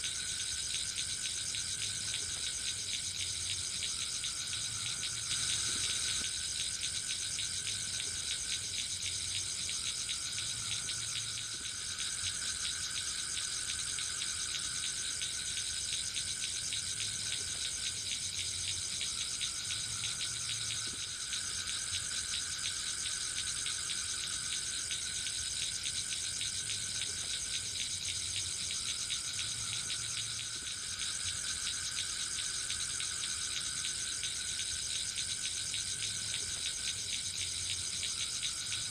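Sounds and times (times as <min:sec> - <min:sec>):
chorus of insects trilling: 0:00.0 - 0:38.9.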